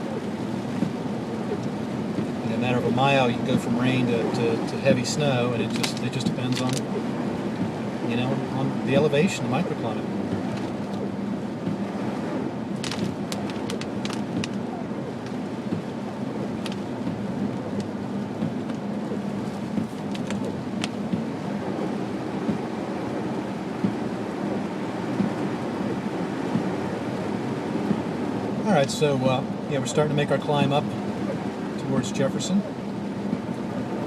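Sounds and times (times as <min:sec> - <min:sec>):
car engine rumble: 0:00.0 - 0:34.0
tyres hissing on wet road: 0:00.0 - 0:34.0.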